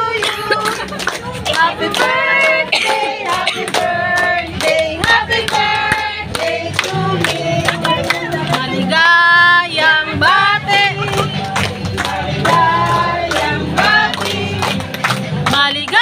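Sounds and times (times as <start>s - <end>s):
group singing a celebration song: 0.0s - 16.0s
music: 0.0s - 16.0s
people clapping in time: 0.0s - 16.0s.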